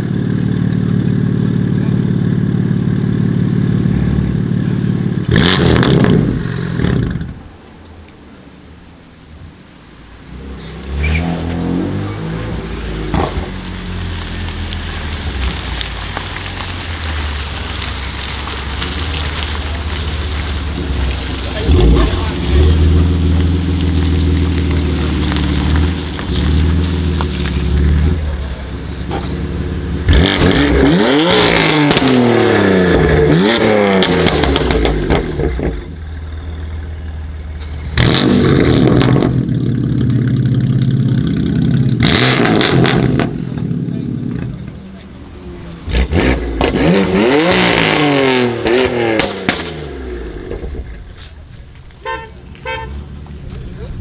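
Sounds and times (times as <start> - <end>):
car engine idling: 0.0 - 54.0
exhaust crackle: 0.0 - 54.0.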